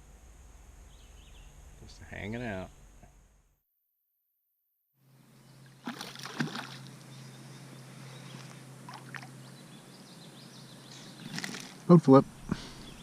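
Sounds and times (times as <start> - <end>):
steady low hum: 0.0 - 3.6, 5.0 - 13.0.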